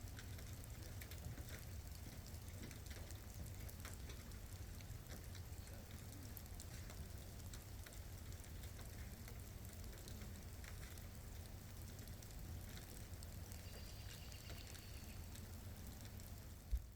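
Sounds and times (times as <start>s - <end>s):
light rain falling: 0.0s - 16.9s.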